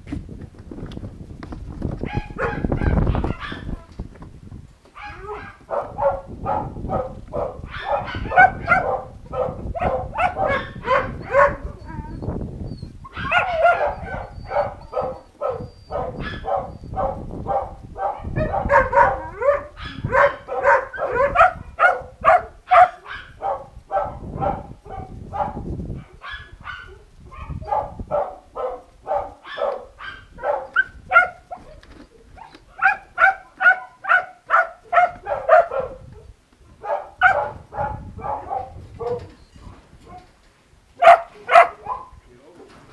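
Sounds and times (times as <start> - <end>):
young dogs barking: 2.0 - 3.9, 4.9 - 42.6.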